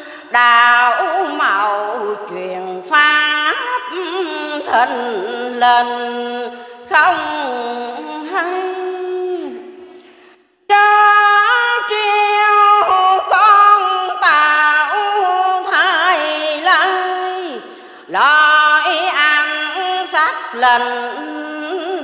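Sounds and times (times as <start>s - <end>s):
woman chanting verse: 0.0s - 9.7s, 10.7s - 22.0s.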